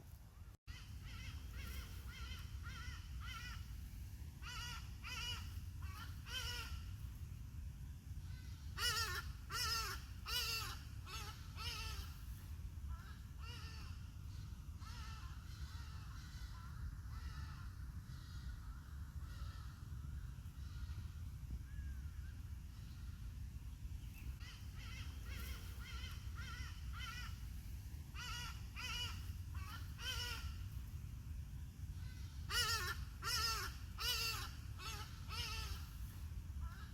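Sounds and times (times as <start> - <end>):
steady low rumble: 0.0 - 36.9.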